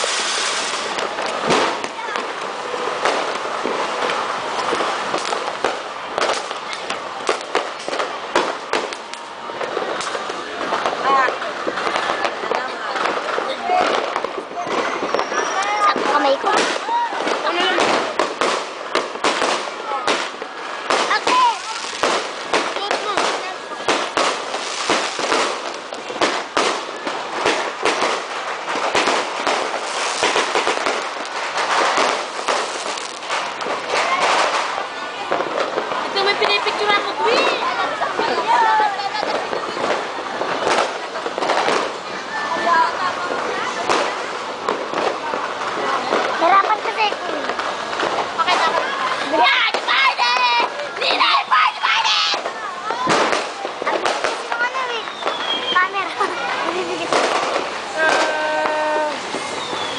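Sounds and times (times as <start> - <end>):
firecracker bangs: 0.0 - 59.9
firework fountain hissing: 0.0 - 59.9.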